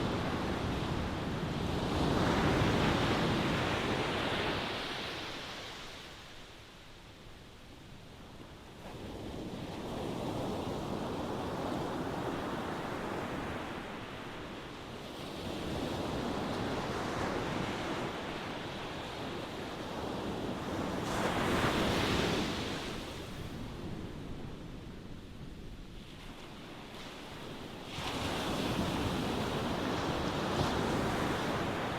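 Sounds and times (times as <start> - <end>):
ocean waves breaking on shore: 0.0 - 7.2, 8.2 - 31.9.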